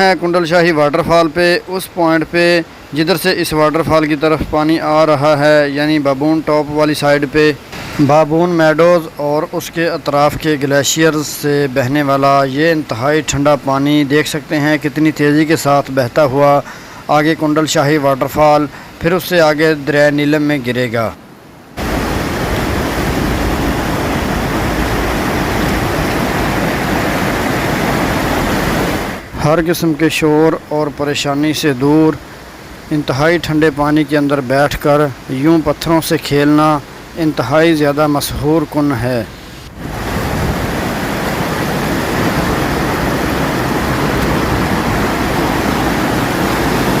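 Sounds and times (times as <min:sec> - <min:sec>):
mountain stream rushing: 0:00.0 - 0:47.0.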